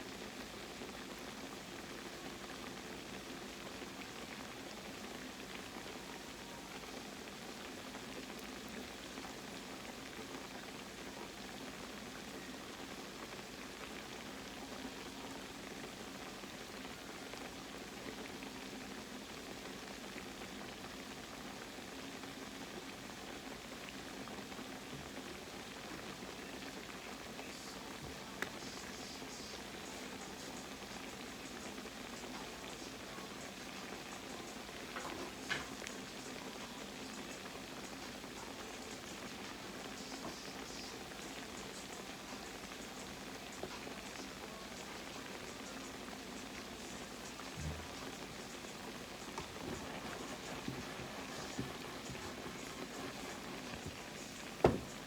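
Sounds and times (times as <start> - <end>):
food frying in hot oil: 0.0 - 55.0.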